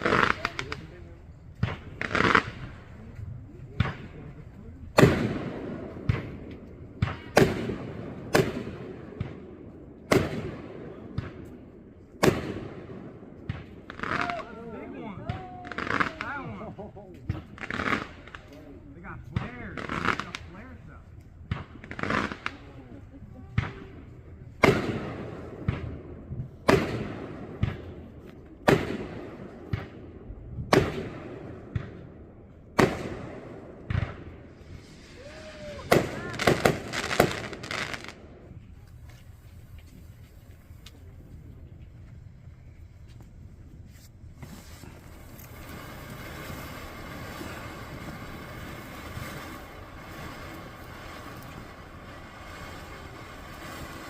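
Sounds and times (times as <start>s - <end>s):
fireworks bangs echoing: 0.0s - 42.1s, 44.3s - 54.0s
small sharp firework pops: 1.5s - 9.5s, 10.1s - 11.6s, 12.2s - 12.8s, 13.4s - 14.5s, 15.2s - 22.8s, 24.6s - 30.0s, 30.7s - 32.1s, 32.8s - 42.2s, 43.0s - 54.0s.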